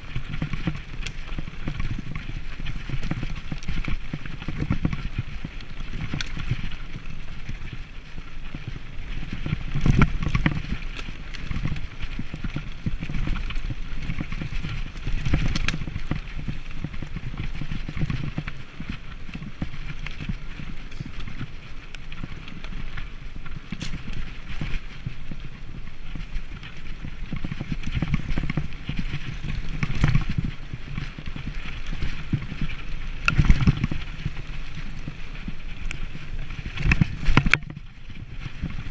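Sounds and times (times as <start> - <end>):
bike rattling over bumps: 0.0 - 38.9
tyres rumbling over dirt: 0.0 - 38.9.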